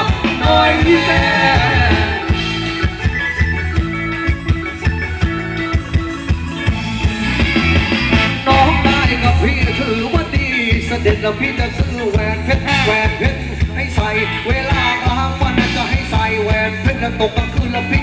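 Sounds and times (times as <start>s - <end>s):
live band playing dance music: 0.0s - 18.0s
steady drum beat: 0.0s - 18.0s.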